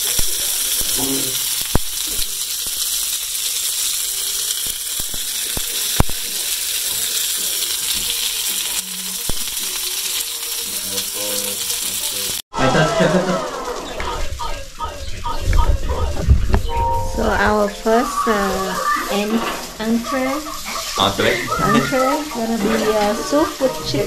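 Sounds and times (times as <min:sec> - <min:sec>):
food sizzling in oil: 0:00.0 - 0:14.9, 0:16.7 - 0:24.0.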